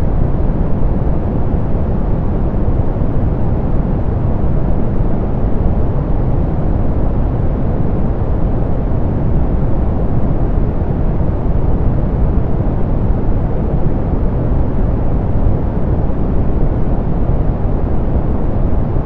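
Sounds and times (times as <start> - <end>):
deep pink noise rush: 0.0 - 19.0.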